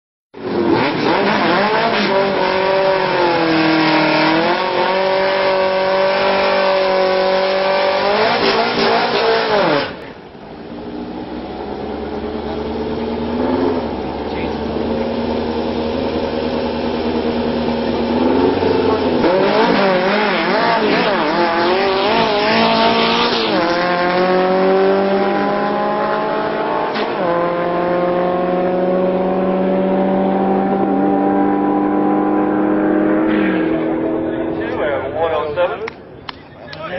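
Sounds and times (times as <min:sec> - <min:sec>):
car engine revving and upshifting: 0:00.4 - 0:10.2, 0:11.3 - 0:35.2.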